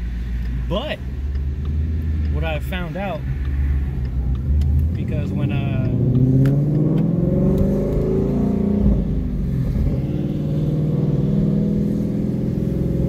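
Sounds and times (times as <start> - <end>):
car engine droning in cabin: 0.0 - 13.0.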